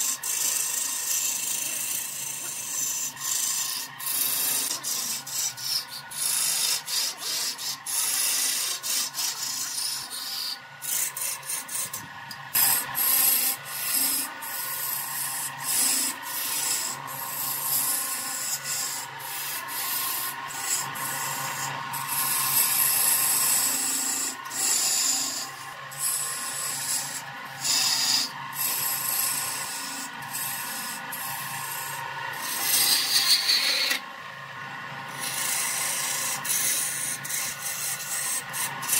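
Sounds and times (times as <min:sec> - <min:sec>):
gouge scraping wood shavings: 0:00.0 - 0:12.0, 0:12.6 - 0:34.0, 0:35.1 - 0:38.9
lathe motor hum: 0:00.0 - 0:38.9.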